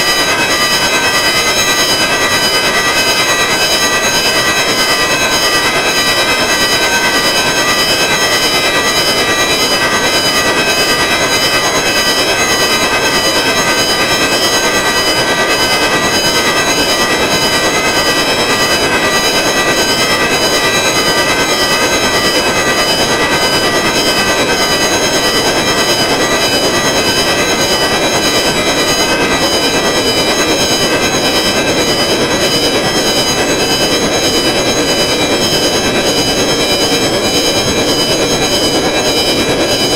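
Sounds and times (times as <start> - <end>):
electronic drone of high tones: 0.0 - 39.9.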